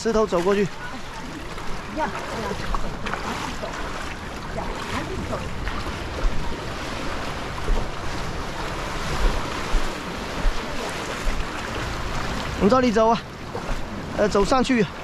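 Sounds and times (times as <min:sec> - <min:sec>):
surf washing over rocky shore: 0:00.0 - 0:15.0
wind buffeting microphone: 0:00.7 - 0:15.0.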